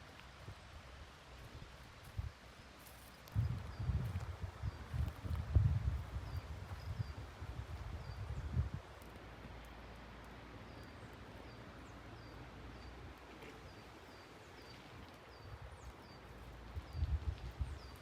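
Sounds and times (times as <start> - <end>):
faint forest ambience hiss: 0.0 - 18.0.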